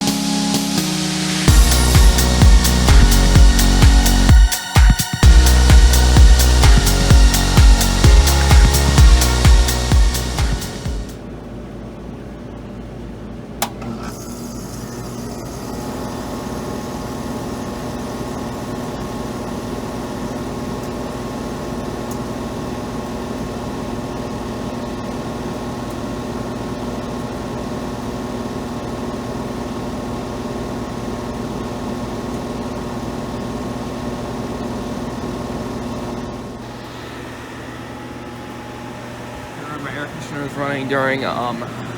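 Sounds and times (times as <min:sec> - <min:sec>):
air conditioner humming: 0:01.5 - 0:27.5, 0:30.2 - 0:41.9.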